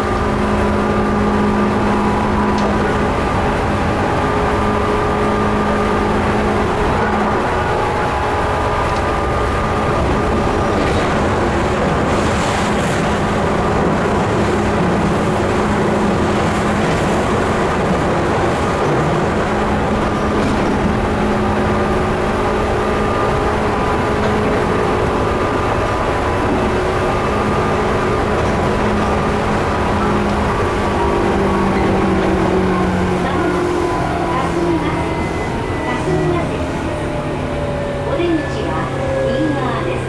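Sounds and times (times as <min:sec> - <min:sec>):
electric train motor hum: 0:00.0 - 0:40.0
train wheels on rails: 0:00.0 - 0:40.0.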